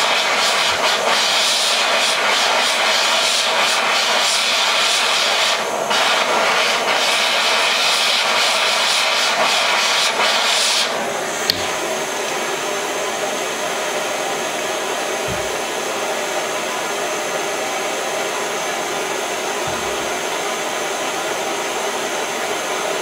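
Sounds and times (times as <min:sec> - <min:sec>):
propane torch hissing: 0:00.0 - 0:23.0.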